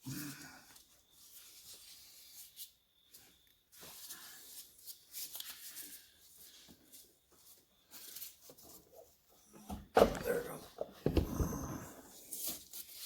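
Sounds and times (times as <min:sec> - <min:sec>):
hands scraping and rustling parts: 0:00.7 - 0:13.0.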